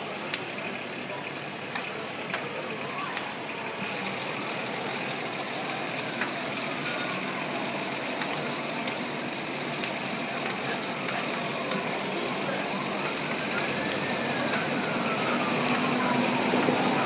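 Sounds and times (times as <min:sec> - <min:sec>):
fire engines running: 0:00.0 - 0:17.0
sharp cracks from fire: 0:00.0 - 0:17.0.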